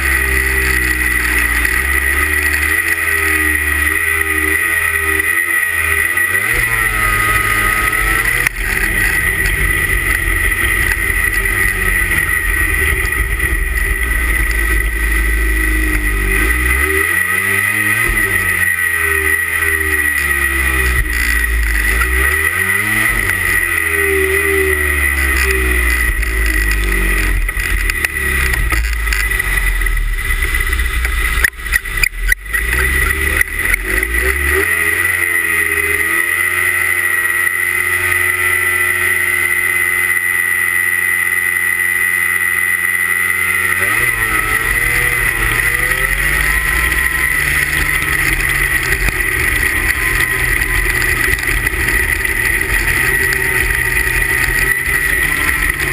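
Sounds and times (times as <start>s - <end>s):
snowmobile engines revving: 0.0s - 55.9s.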